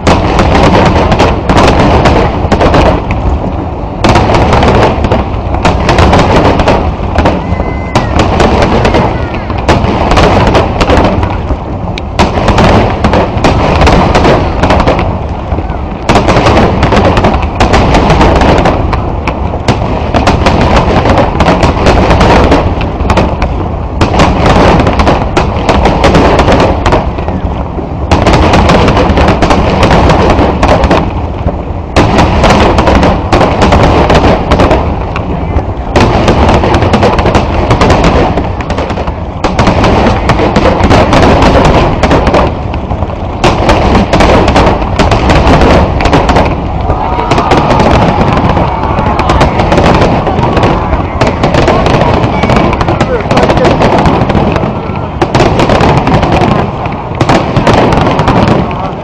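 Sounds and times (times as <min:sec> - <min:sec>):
firework shells bursting: 0:00.0 - 0:59.0.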